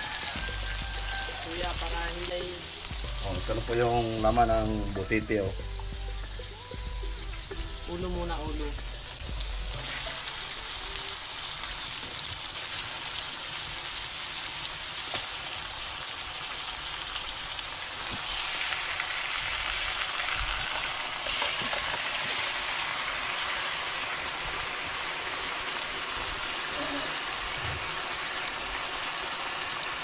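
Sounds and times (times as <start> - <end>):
fish sizzling in a wok: 0.0 - 30.0.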